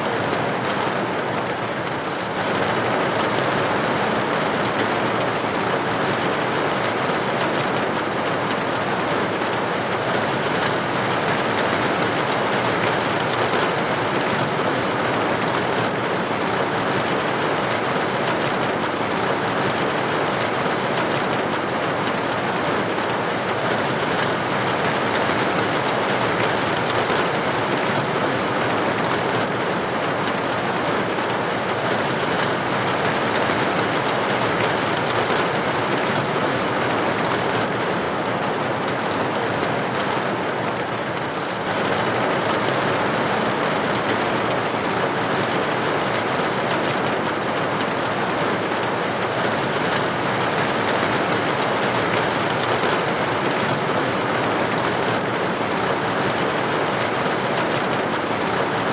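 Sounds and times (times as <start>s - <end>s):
rain pattering on window: 0.0s - 58.9s.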